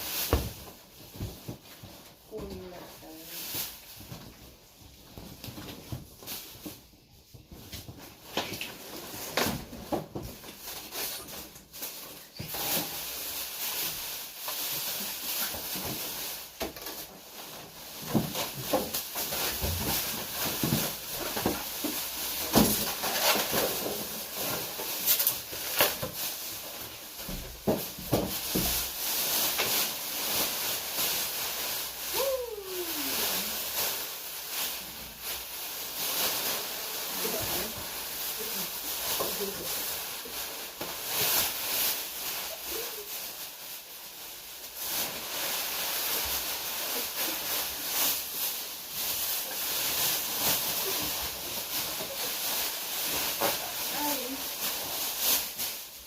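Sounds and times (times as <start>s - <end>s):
rustling: 0.0s - 56.0s.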